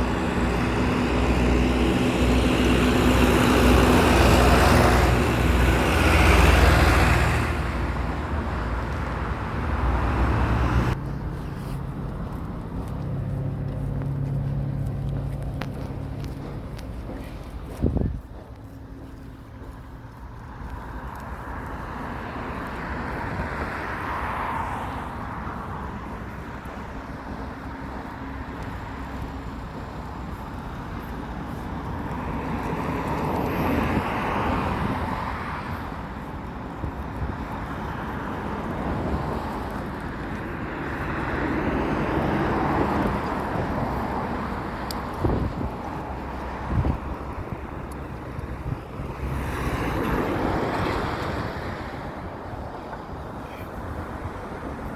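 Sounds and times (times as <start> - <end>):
low traffic rumble: 0.0 - 54.9
vehicles passing: 0.0 - 54.9.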